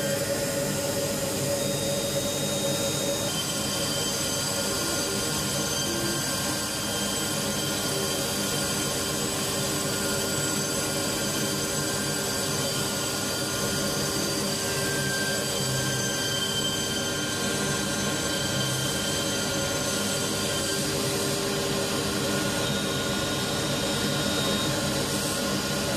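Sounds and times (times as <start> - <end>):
milling machine high whine: 0.0 - 25.9.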